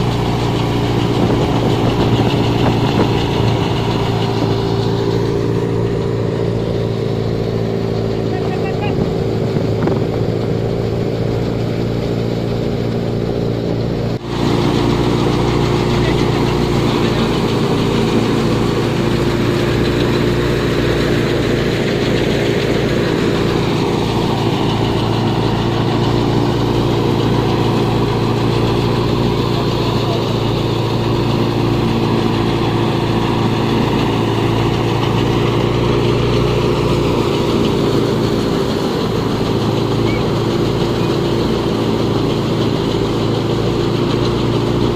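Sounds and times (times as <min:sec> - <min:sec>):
thresher machine drone: 0:00.0 - 0:44.9.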